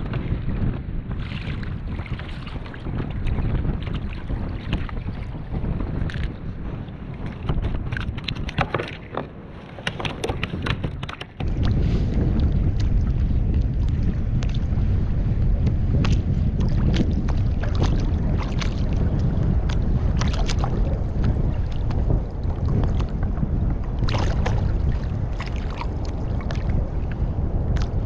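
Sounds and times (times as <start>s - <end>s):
waves slapping against kayak: 0.0s - 28.0s
wind buffeting microphone: 0.0s - 28.0s.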